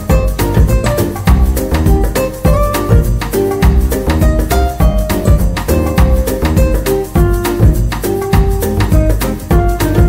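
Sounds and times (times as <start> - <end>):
held melody notes: 0.0 - 10.0
steady percussion beat: 0.0 - 10.0.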